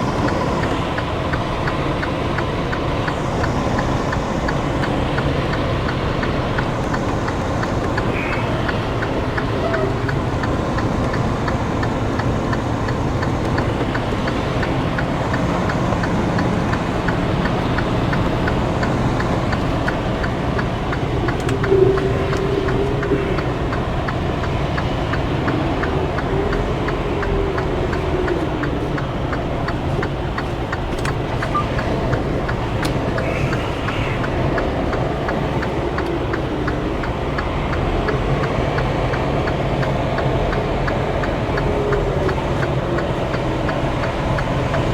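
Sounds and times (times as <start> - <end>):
diesel truck engine running: 0.0 - 44.9
faint ticking clatter: 0.0 - 44.9.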